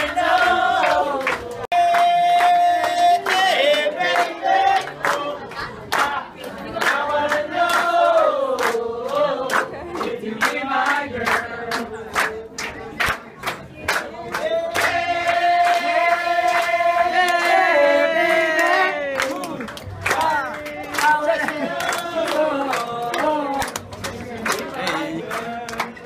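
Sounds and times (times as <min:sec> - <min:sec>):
crowd singing and chanting: 0:00.0 - 0:26.0
rhythmic clapping: 0:00.0 - 0:26.0.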